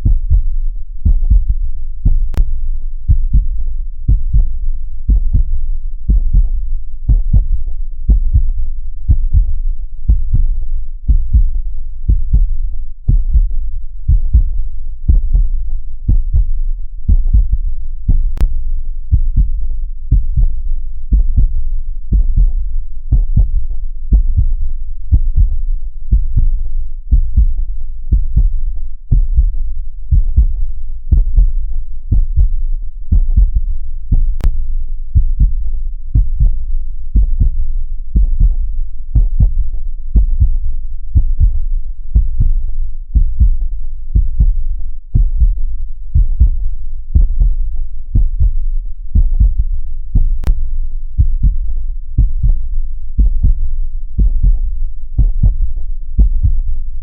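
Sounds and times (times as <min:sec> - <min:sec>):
heartbeat thumps: 0:00.0 - 0:56.9.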